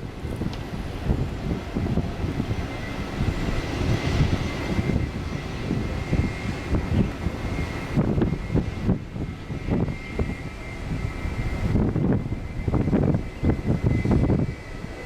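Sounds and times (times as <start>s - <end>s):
airliner engines whining: 0.0s - 15.0s
wind buffeting microphone: 0.0s - 15.0s.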